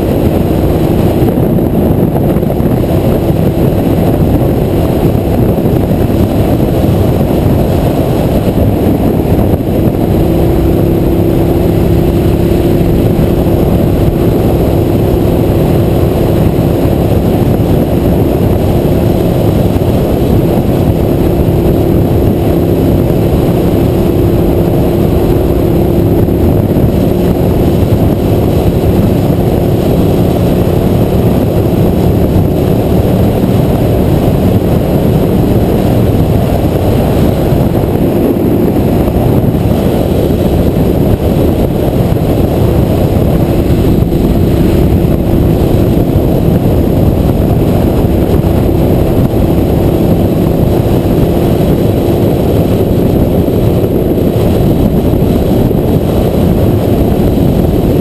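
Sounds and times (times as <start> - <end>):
motorcycle engine cruising: 0.0 - 58.0
wind and road rush: 0.0 - 58.0.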